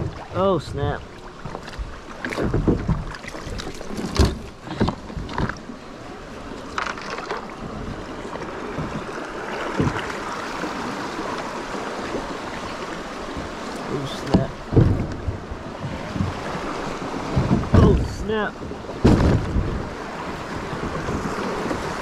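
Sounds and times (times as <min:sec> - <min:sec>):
kayak knocks and bumps: 0:00.0 - 0:05.8, 0:06.4 - 0:22.0
rushing river water: 0:00.0 - 0:22.0.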